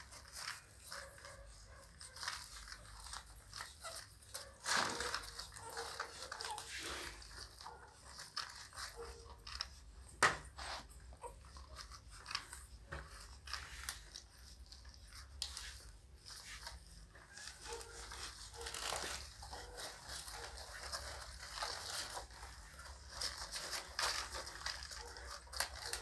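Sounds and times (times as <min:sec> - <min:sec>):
puppies nursing smacking: 0:00.0 - 0:26.0.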